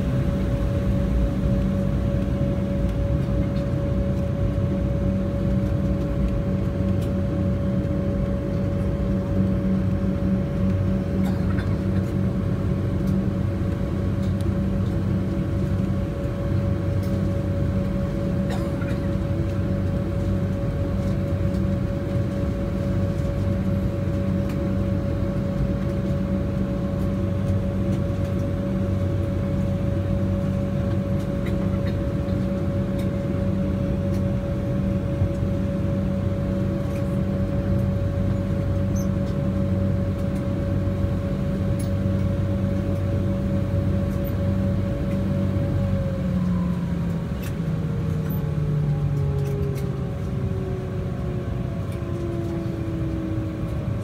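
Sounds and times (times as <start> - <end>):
airliner cabin hum: 0.0 - 54.0
constant whining tone: 0.0 - 54.0.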